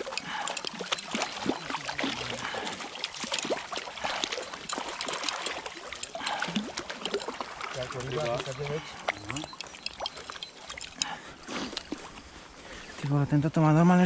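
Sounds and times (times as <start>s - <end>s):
fish splashing in water: 0.0s - 12.3s.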